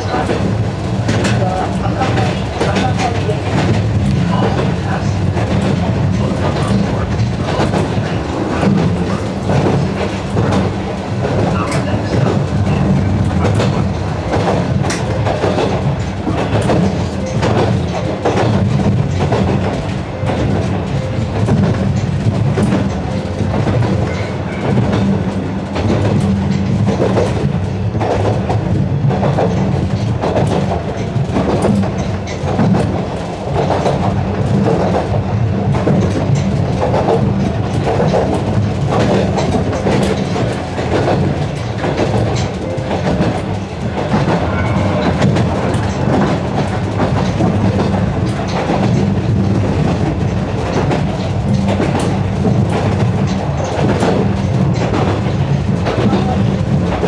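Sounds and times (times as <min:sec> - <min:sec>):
electric train rumbling: 0:00.0 - 0:57.0
wheels clacking over rail joints: 0:00.0 - 0:57.0.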